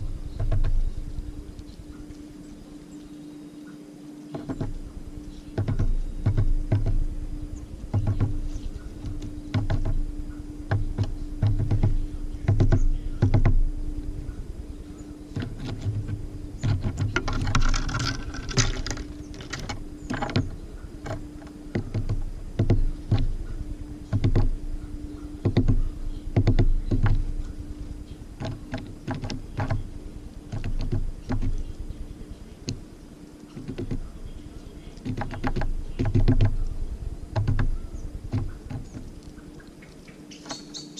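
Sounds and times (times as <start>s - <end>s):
birds pecking at seed: 0.0s - 40.9s
low hum: 0.0s - 40.9s.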